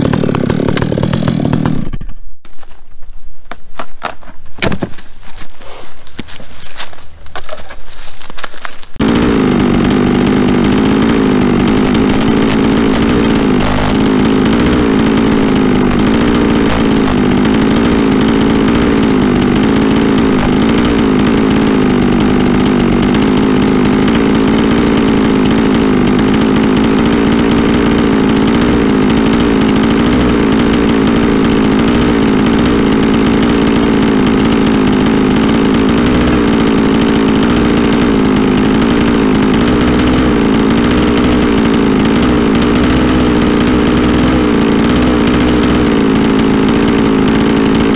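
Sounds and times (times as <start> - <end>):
chainsaw engine idling: 0.0 - 2.2, 9.0 - 47.9.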